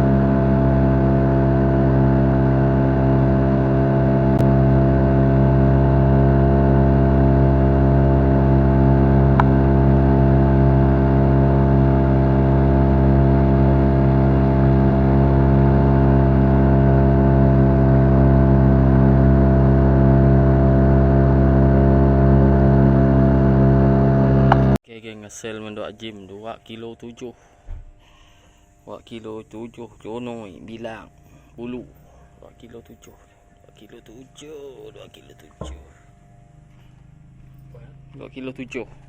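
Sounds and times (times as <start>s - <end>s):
boat engine running: 0.0s - 24.8s, 29.1s - 39.0s.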